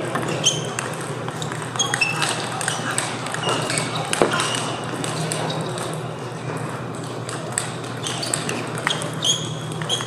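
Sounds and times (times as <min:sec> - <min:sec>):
table tennis balls clicking: 0:00.0 - 0:06.0, 0:07.0 - 0:10.0
low hum of hall: 0:00.0 - 0:10.0.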